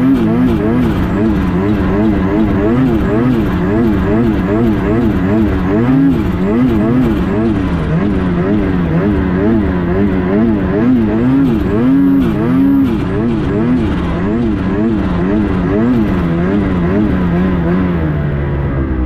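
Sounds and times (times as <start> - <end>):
snowmobile engine running hard: 0.0 - 19.0.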